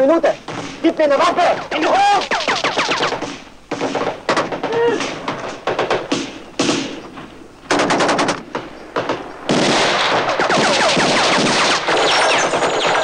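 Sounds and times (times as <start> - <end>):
automatic gunfire: 1.2 - 7.0, 7.7 - 8.4, 9.0 - 13.0.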